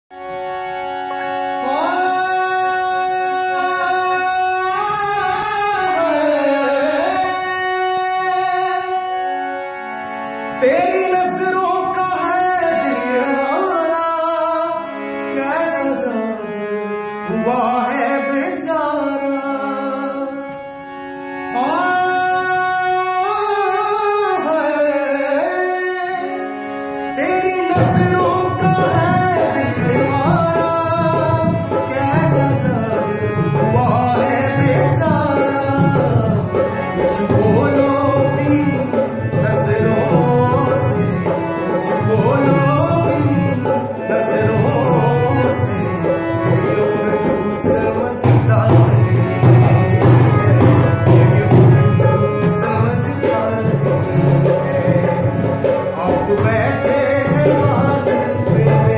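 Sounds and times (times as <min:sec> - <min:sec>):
harmonium: 0:00.1 - 0:58.9
accompaniment with steady beat: 0:00.2 - 0:58.9
man singing: 0:01.4 - 0:09.6, 0:10.4 - 0:58.9.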